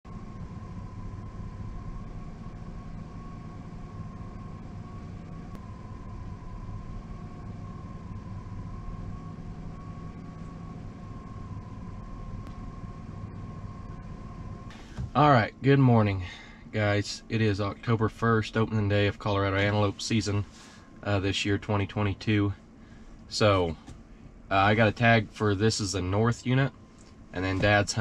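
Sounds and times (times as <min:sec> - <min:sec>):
thin steady whine: 0:00.0 - 0:28.0.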